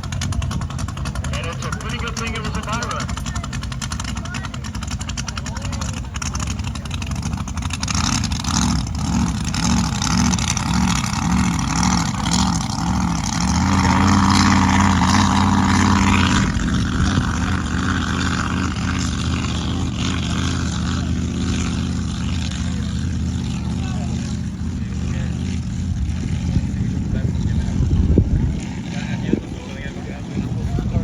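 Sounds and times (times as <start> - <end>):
racing boat engine revving: 0.0 - 31.0.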